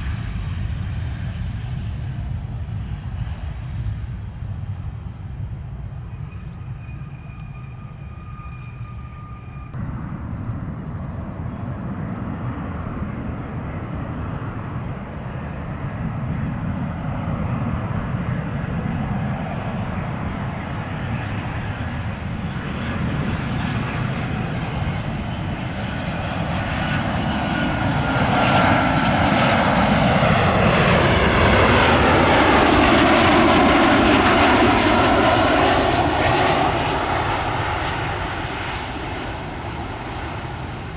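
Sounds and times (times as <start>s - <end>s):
jet airplane passing: 0.0s - 40.9s
steady jet whine: 0.0s - 40.9s.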